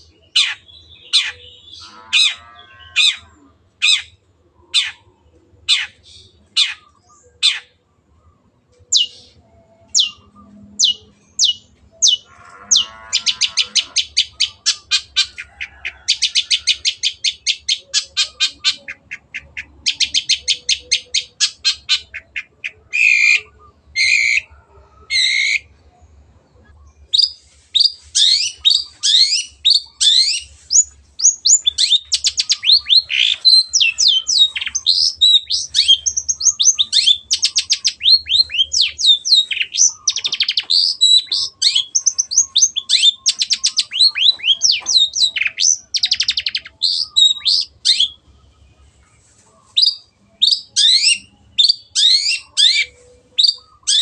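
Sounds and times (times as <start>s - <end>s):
shrike singing: 8.9s - 25.8s, 26.9s - 54.0s.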